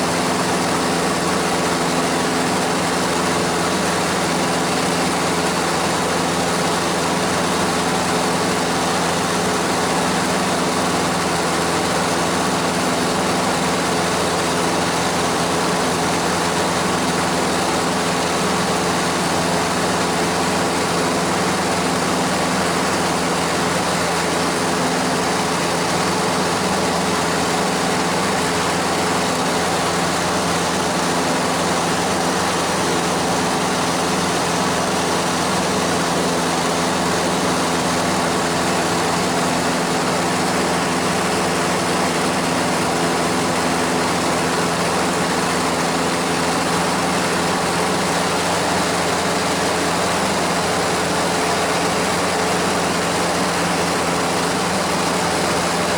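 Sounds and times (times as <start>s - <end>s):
propeller aircraft engine droning: 0.0s - 55.9s.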